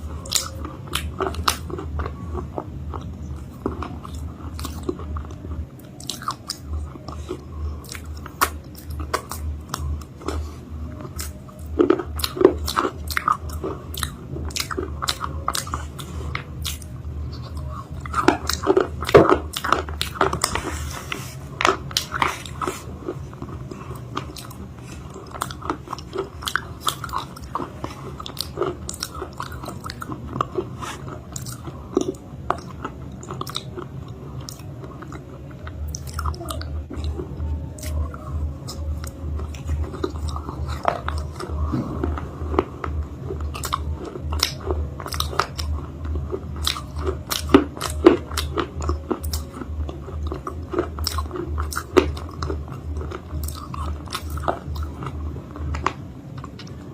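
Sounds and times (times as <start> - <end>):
crunchy chewing: 0.0 - 56.9
steady low hum: 0.0 - 56.9.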